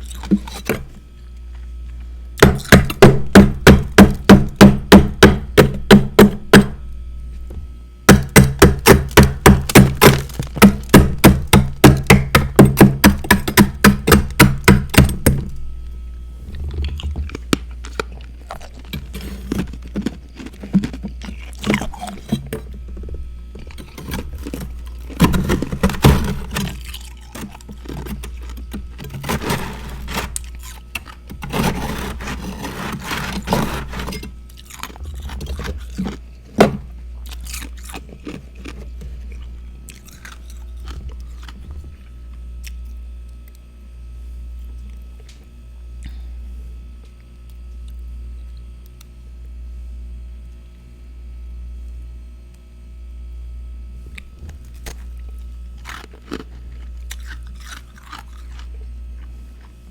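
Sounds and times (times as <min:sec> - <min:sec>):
crunching frost being chewed: 0:00.0 - 0:03.3, 0:07.2 - 0:52.8, 0:53.9 - 0:59.9
steady low hum: 0:00.0 - 0:59.9.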